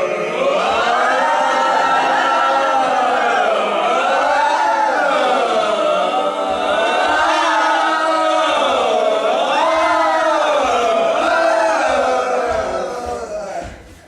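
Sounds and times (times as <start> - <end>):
group of voices wailing: 0.0 - 13.9.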